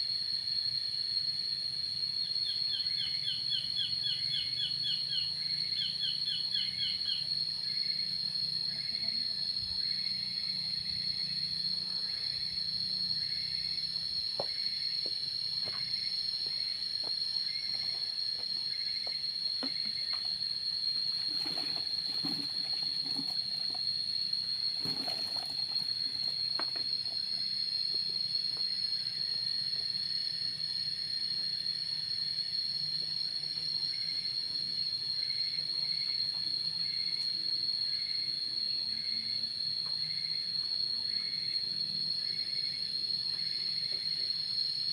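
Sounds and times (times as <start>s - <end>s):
high-pitched insect drone: 0.0s - 44.9s
insect chirping in pulses: 0.0s - 44.9s.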